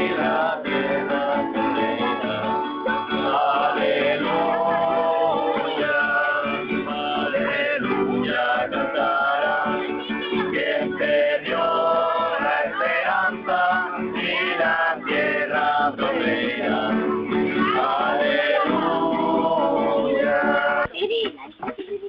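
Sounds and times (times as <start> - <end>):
men singing together: 0.0 - 20.9
acoustic guitars: 0.0 - 21.0.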